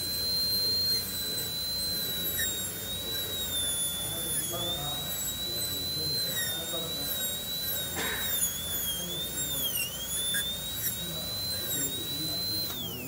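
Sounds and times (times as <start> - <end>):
dental drill whining: 0.0 - 13.0.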